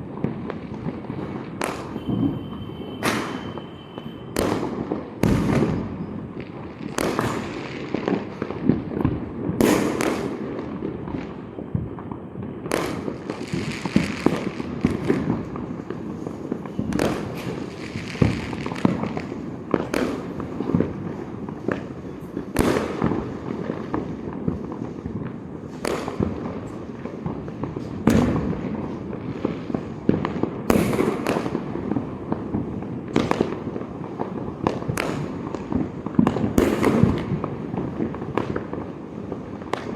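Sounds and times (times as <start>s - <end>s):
dense crackle of firecrackers: 0.0s - 39.9s
firework bangs: 0.0s - 39.9s.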